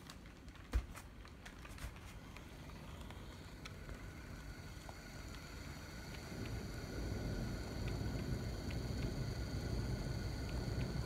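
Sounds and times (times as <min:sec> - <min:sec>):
faint motor whine: 0:00.0 - 0:11.0.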